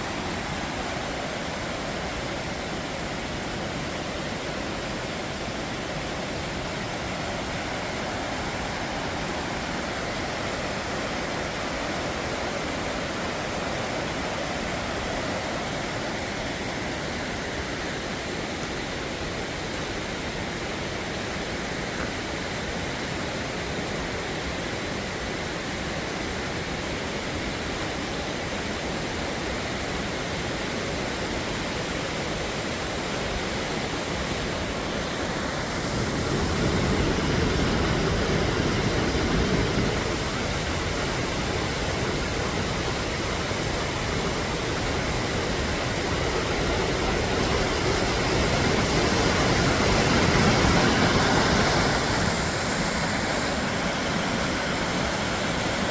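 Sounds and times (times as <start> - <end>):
flowing water rushing: 0.0 - 55.9.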